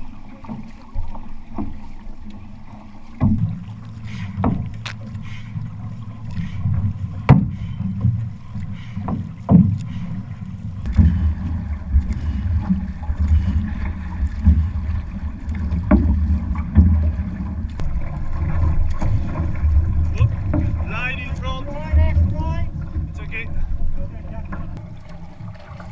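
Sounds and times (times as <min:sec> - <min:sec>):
paddle strokes: 0:00.0 - 0:25.9
water slapping against hull: 0:00.0 - 0:25.9
steady low rumble: 0:02.9 - 0:25.9.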